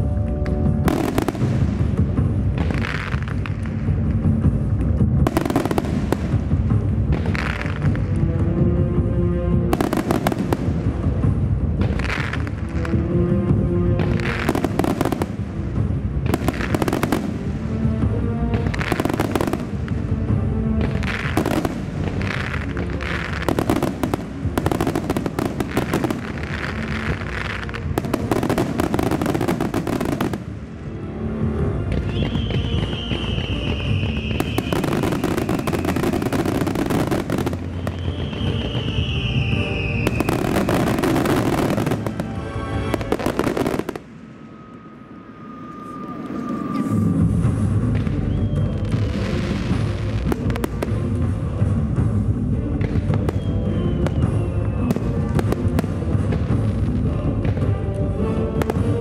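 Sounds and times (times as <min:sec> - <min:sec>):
fireworks bursting and crackling: 0:00.0 - 0:44.9, 0:45.6 - 0:59.0
loud music from loudspeakers: 0:00.8 - 0:20.1, 0:20.9 - 0:30.8, 0:31.9 - 0:44.0, 0:47.3 - 0:59.0.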